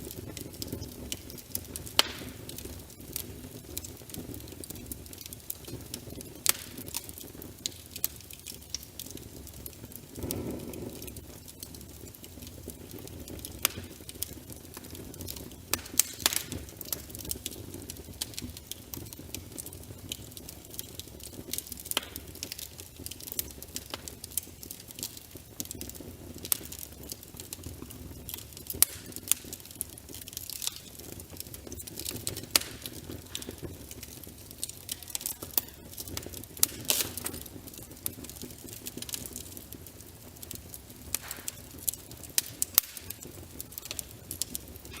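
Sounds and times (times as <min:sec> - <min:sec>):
low rush of flame: 0:00.0 - 0:44.9
wood fire snapping and popping: 0:00.0 - 0:45.0.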